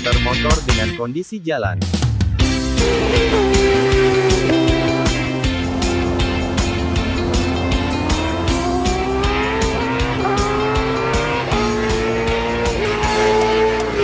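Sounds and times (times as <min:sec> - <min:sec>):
background music with beat: 0:00.0 - 0:01.0, 0:01.7 - 0:14.0
motorcycle engine accelerating: 0:02.4 - 0:14.0.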